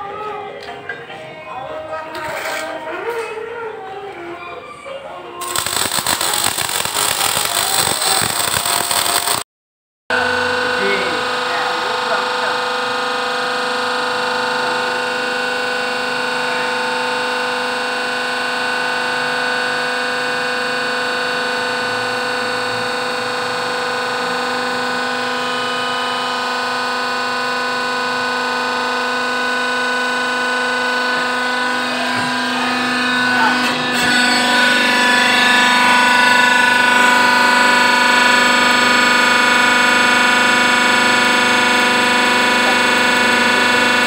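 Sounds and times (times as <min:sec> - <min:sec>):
hydraulic press motor whine: 0:05.4 - 0:09.4, 0:10.1 - 0:44.0.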